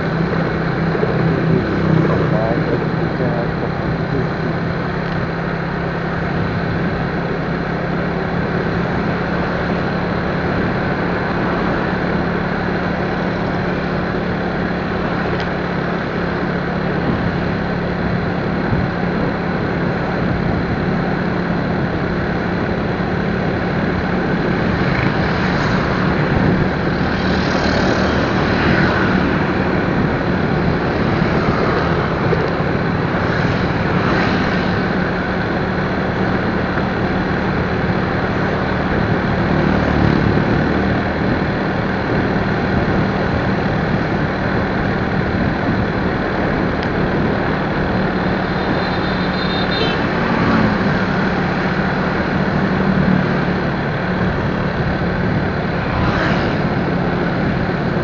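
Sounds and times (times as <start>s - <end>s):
road and wind noise: 0.0s - 58.0s
vehicle engine hum: 0.0s - 58.0s.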